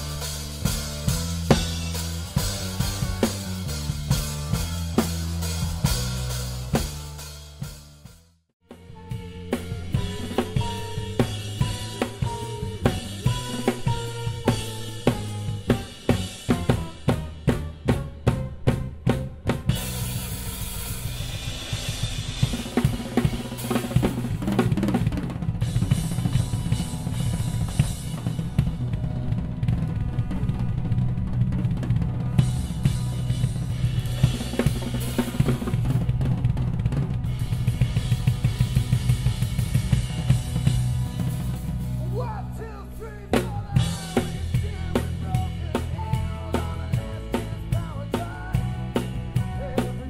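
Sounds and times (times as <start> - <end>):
drum kit playing: 0.0 - 50.0
steady low notes: 0.0 - 50.0.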